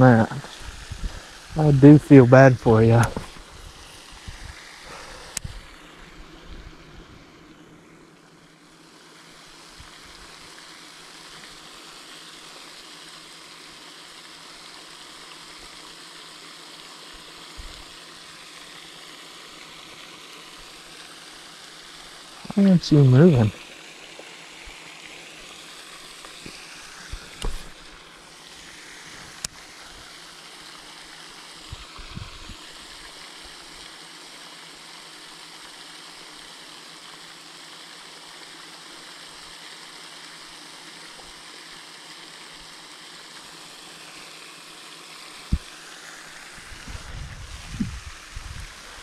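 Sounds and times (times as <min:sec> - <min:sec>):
steady outdoor background hiss: 0:00.0 - 0:49.0.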